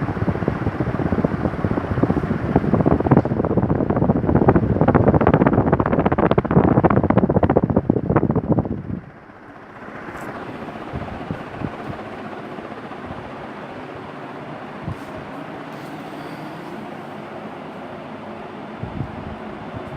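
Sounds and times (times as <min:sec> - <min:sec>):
rush of moving air: 0:00.0 - 0:16.1, 0:18.4 - 0:19.9
ceiling fan wind buffeting microphone: 0:00.0 - 0:19.9.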